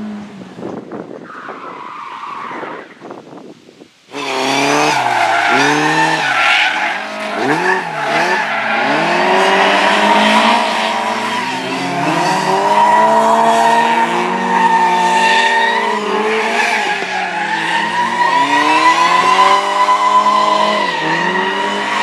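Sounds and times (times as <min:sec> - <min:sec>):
tyres squealing and skidding: 0:01.2 - 0:03.1, 0:04.1 - 0:22.0
rally car engines revving: 0:04.1 - 0:22.0.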